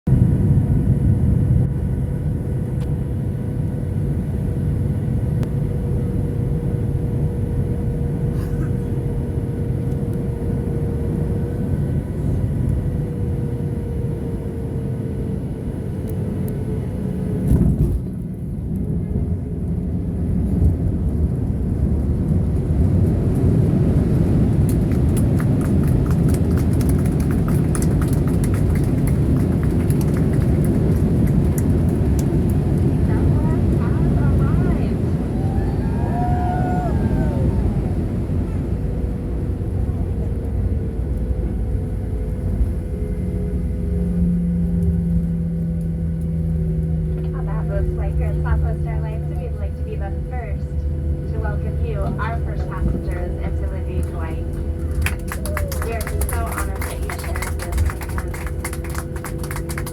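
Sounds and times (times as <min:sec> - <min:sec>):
airplane cabin engine rumble: 0:00.1 - 0:59.9
faint engine whine: 0:00.1 - 0:59.9.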